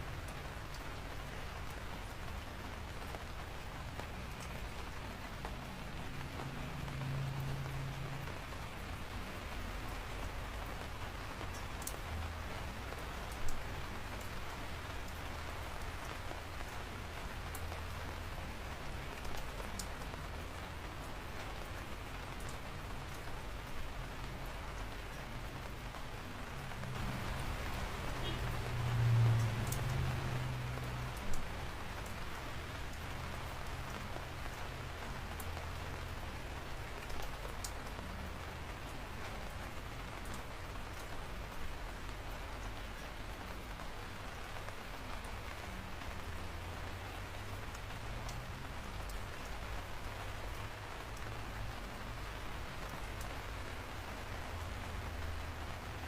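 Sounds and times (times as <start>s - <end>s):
raindrops ticking: 0.0s - 56.0s
steady rain: 0.0s - 56.0s.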